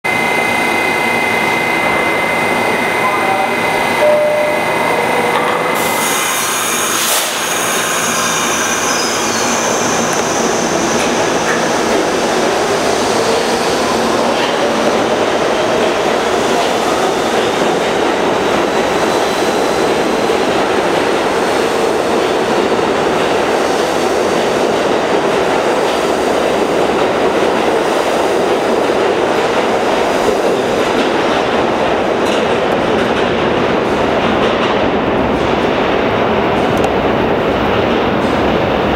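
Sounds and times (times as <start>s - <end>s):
subway train wheels rolling: 0.0s - 38.9s.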